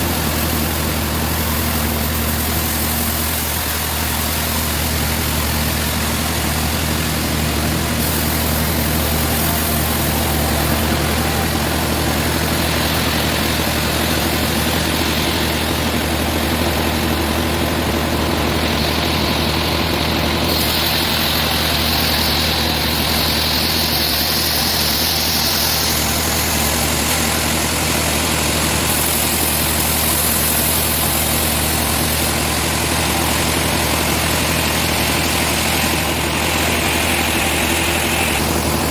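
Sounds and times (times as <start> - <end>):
machinery hiss: 0.0 - 38.9
sawmill engine drone: 0.0 - 38.9.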